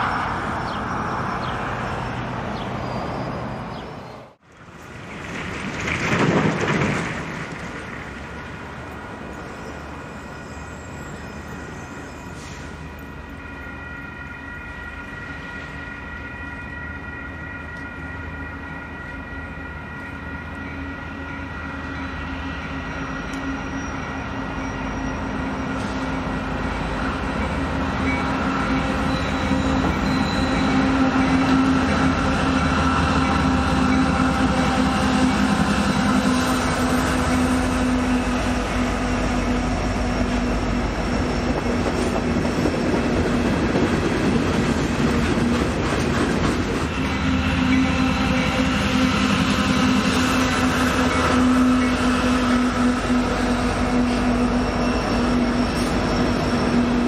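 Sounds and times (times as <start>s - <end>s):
diesel freight train humming: 0.0s - 57.0s.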